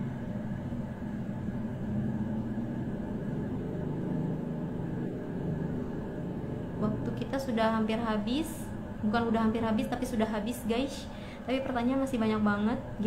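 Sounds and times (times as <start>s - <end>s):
low office room rumble: 0.0s - 13.0s.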